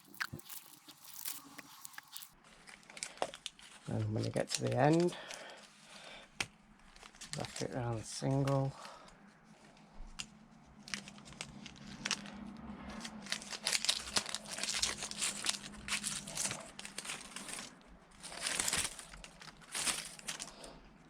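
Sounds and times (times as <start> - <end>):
rubber tape crackly rustling: 0.0 - 21.0.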